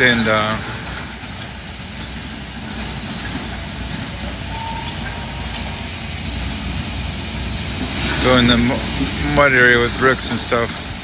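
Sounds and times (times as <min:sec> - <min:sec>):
diesel demolition machine running: 0:00.0 - 0:11.0.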